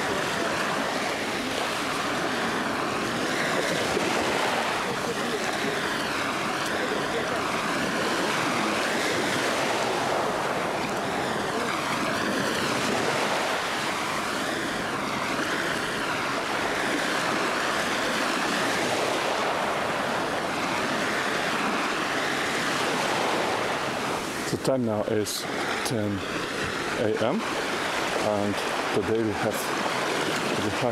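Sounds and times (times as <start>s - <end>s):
small waves breaking on beach: 0.0s - 30.9s.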